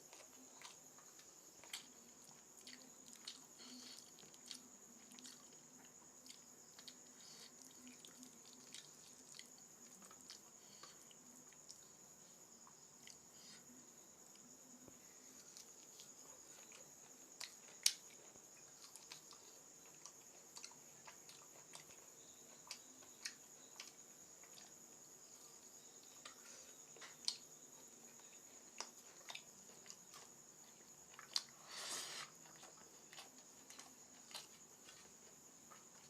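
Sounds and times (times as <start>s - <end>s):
person eating: 0.1s - 12.0s, 15.4s - 24.8s, 28.1s - 36.0s.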